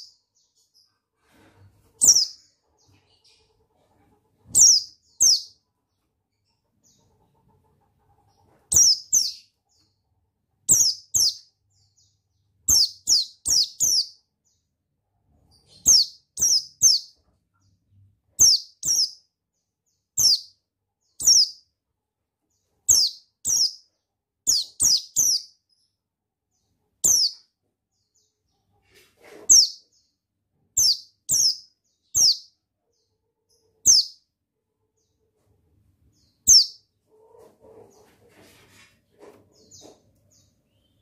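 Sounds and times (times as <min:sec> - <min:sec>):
bird chirping: 0:00.0 - 0:38.5, 0:39.2 - 0:41.0.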